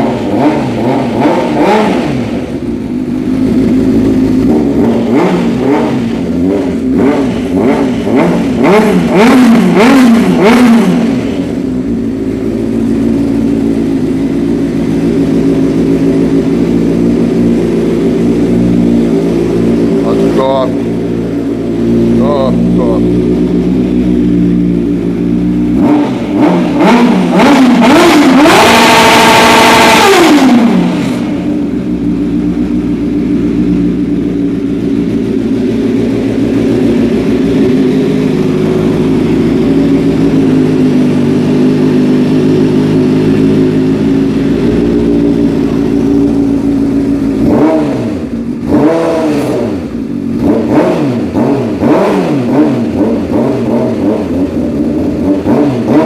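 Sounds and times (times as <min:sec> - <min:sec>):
engine revving through exhaust: 0:00.0 - 0:56.0.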